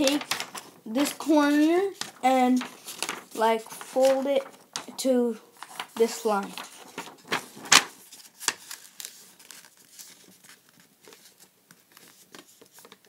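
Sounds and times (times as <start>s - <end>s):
paper crackle: 0.0s - 13.0s
paper rustling and crinkling: 0.0s - 13.0s.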